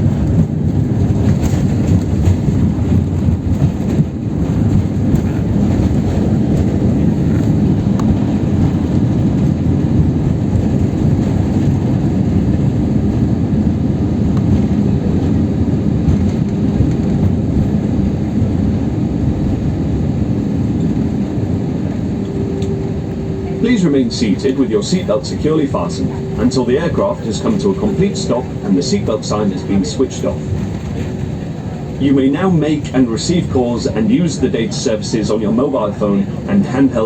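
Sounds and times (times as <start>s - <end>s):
airliner cabin rumble: 0.0s - 37.0s
steady hum: 2.3s - 37.0s.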